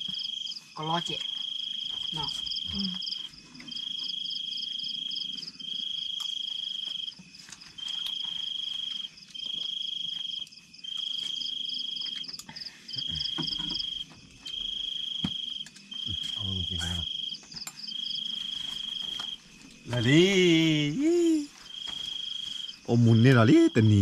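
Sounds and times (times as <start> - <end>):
cricket trilling: 0.0 - 24.0.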